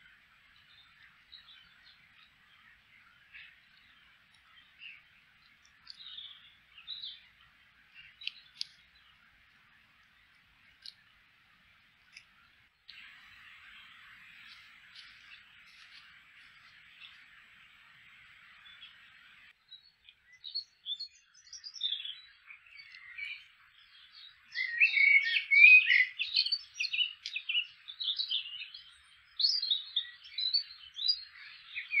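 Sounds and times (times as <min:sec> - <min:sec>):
faint steady hiss: 0:00.0 - 0:32.0
small birds chirping and singing: 0:00.0 - 0:32.0.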